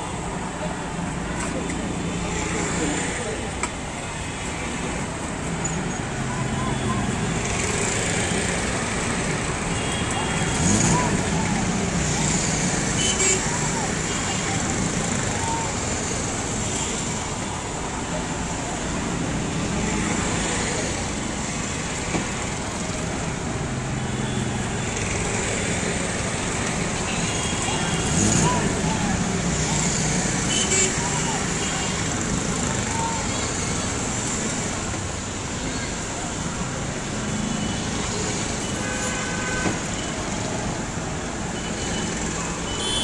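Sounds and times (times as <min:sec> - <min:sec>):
street traffic: 0:00.0 - 0:43.0.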